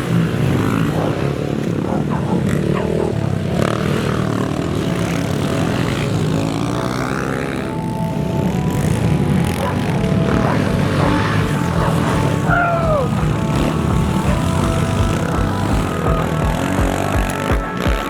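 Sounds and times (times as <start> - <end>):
pit bike engines revving: 0.0 - 18.0.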